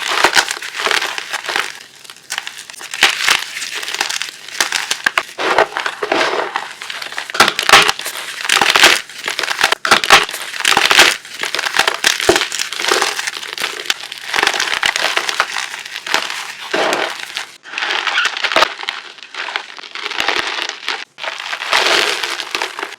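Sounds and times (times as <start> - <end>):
chalk chunks being crushed: 0.0 - 22.9.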